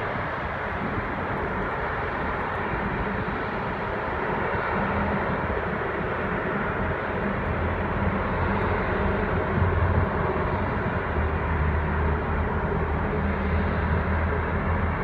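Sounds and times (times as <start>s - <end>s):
city traffic rumble: 0.0s - 15.0s
ship engine drone: 0.0s - 15.0s.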